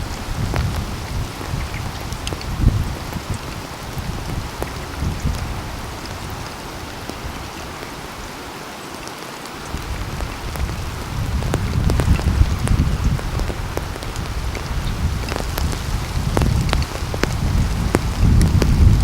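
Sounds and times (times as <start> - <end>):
raindrops ticking on a surface: 0.0 - 19.0
steady rain: 0.0 - 19.0.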